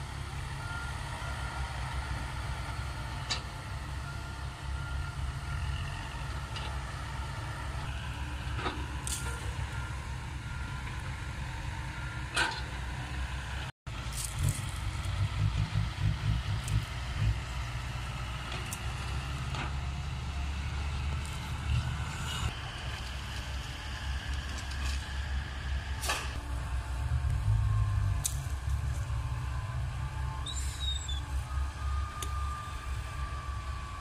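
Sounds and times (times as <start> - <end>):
heavy diesel engines rumbling: 0.0 - 34.0.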